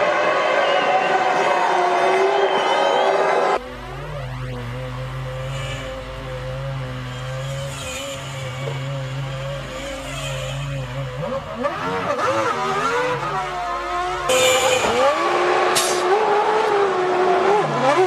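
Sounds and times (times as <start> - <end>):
racing car engines at high revs: 2.9 - 18.0.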